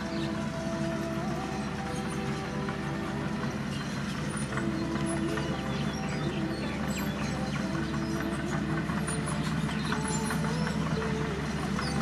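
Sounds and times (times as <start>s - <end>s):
diesel engine running: 0.0s - 12.0s
machinery clanks and clicks: 0.0s - 12.0s.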